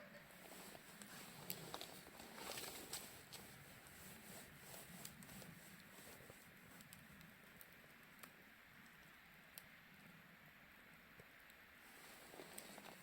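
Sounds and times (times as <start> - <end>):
quiet hiss: 0.0 - 13.0
wood fire crackling: 0.2 - 13.0.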